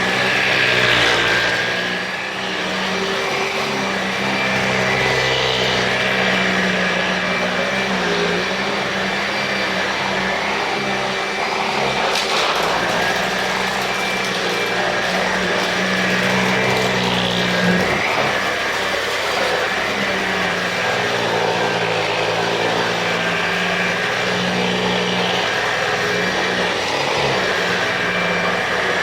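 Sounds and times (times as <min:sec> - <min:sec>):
vacuum cleaner running on carpet: 0:00.0 - 0:29.0.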